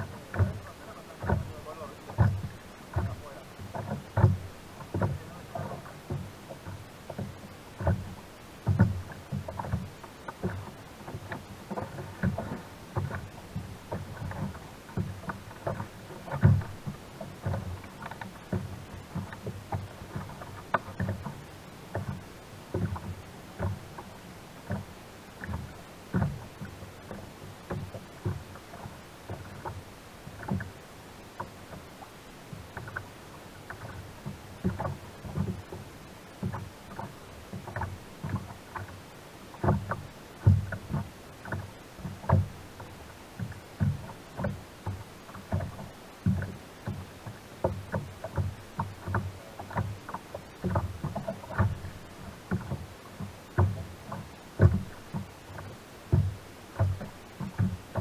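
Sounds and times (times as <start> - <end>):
waves slapping kayak hull: 0.0 - 58.0.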